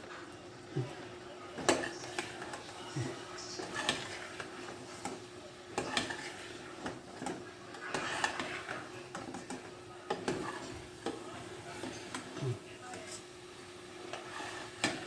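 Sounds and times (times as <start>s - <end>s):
spoon scraping a pot: 0.8s - 15.0s.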